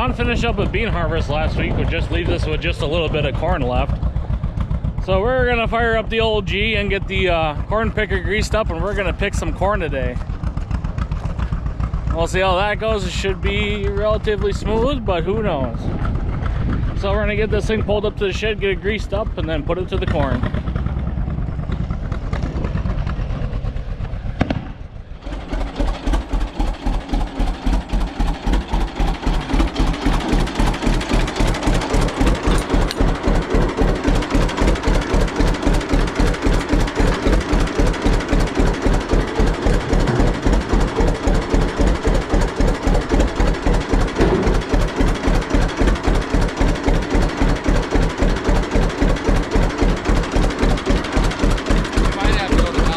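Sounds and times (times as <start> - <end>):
tractor engine pulsing: 0.0 - 52.9.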